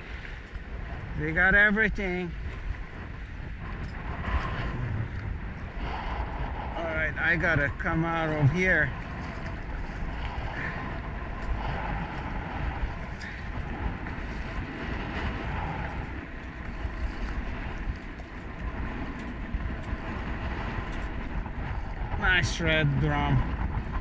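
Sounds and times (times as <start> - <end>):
water lapping against hull: 0.0 - 24.0
wind rushing over microphone: 0.0 - 24.0.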